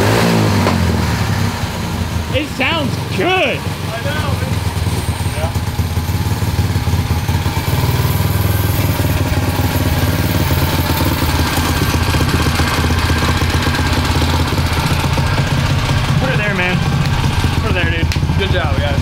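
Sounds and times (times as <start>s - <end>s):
racing engine running: 0.0s - 19.0s.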